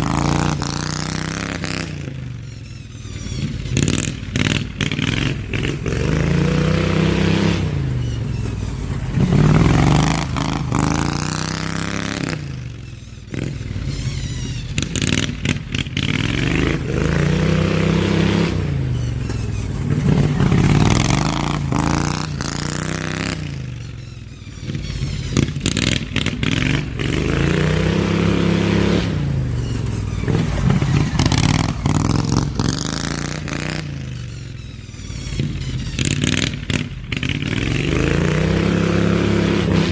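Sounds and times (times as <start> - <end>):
riding mower engine: 0.0 - 39.9.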